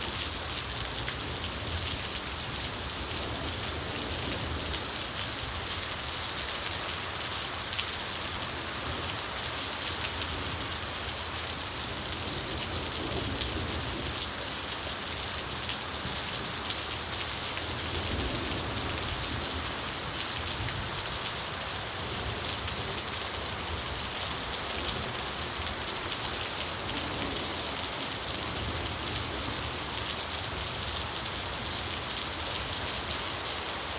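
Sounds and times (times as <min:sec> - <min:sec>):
steady rain patter: 0:00.0 - 0:33.9.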